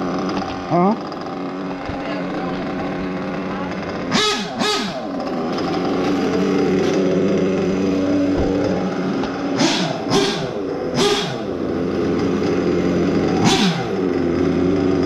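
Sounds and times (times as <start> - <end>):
small glow engine idling and revving: 0.0 - 15.0.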